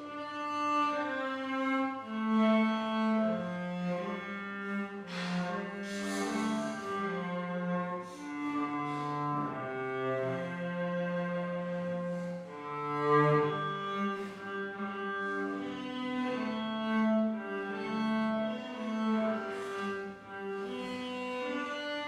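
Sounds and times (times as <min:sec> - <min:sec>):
cello playing slow melody: 0:00.0 - 0:22.0.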